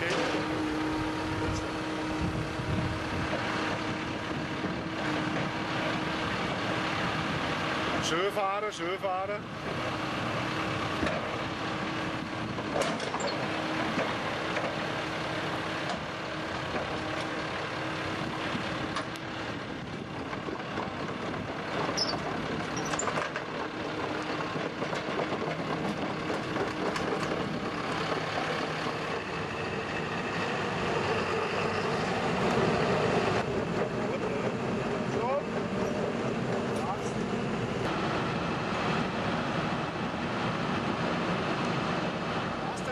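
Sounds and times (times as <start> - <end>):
drill rig engine running: 0.0 - 42.9.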